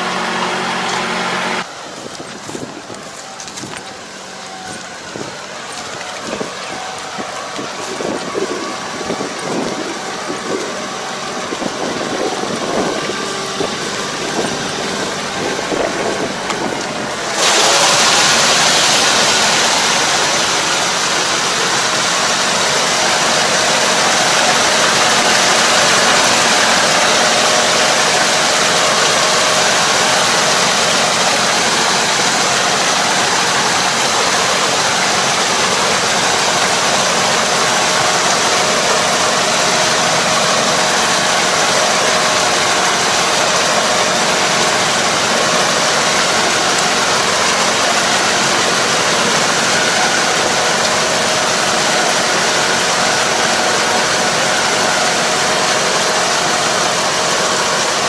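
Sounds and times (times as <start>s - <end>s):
harrow churning muddy water: 0.0s - 58.0s
tractor engine running: 0.0s - 58.0s.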